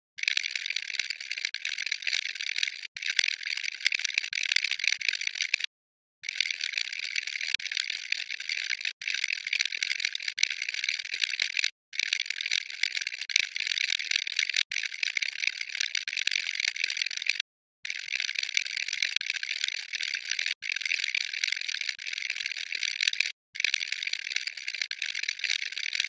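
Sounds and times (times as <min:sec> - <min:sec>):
watch ticking fast: 0:00.2 - 0:26.0.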